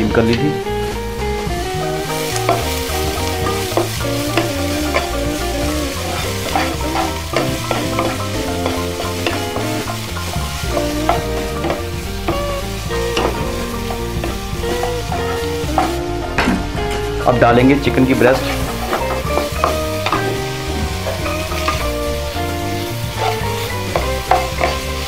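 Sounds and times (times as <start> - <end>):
background music: 0.0 - 25.0
oil sizzling: 0.0 - 25.0
spatula scraping wok: 0.9 - 17.1, 17.8 - 25.0.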